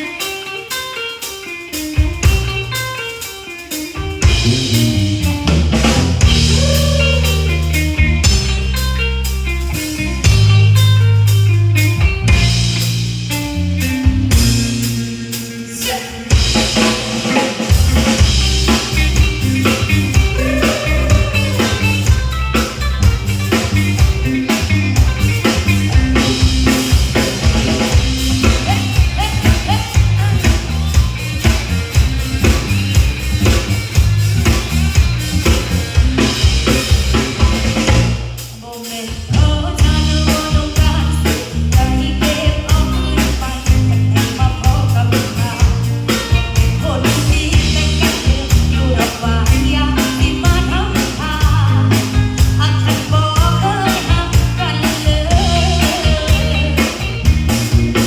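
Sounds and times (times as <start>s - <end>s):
live band instrumental: 0.0s - 58.0s
bass line: 4.0s - 38.4s, 39.3s - 58.0s
drum kit snare and bass drum: 4.0s - 58.0s.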